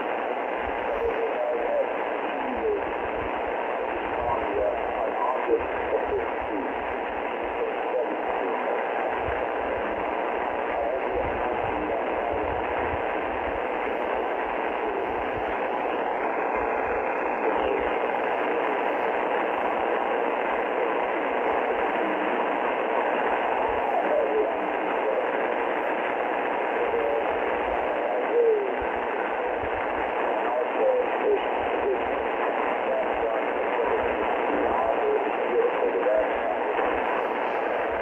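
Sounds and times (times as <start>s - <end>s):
shortwave radio static: 0.0s - 38.0s
weak radio signal: 0.0s - 38.0s.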